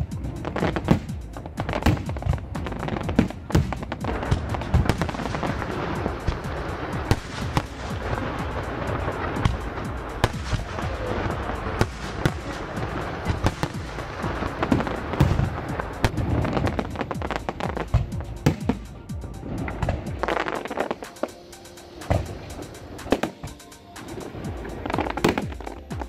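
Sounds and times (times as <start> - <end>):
background music: 0.0 - 26.0
fireworks bangs and crackling: 0.0 - 26.0.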